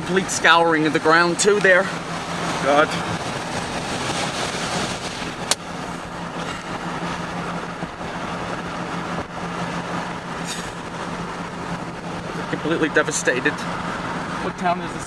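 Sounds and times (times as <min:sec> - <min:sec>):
low engine hum: 0:00.0 - 0:15.0
tyre and air road noise: 0:00.0 - 0:15.0.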